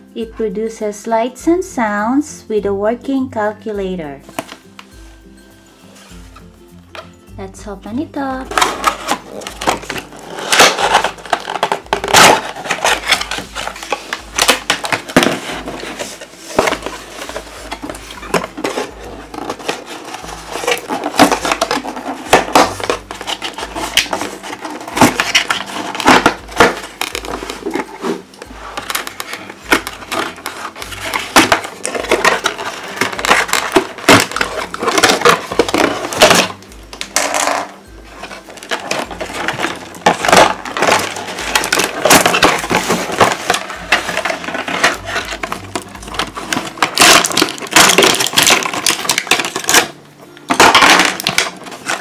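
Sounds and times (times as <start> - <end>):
cardboard and plastic packaging rustling: 4.1 - 7.3, 7.9 - 52.0.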